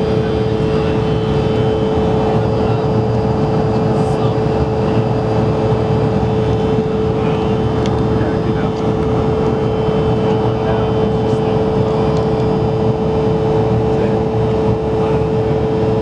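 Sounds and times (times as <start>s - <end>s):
constant cabin hum: 0.0s - 16.0s
engine and airflow rush: 0.0s - 16.0s.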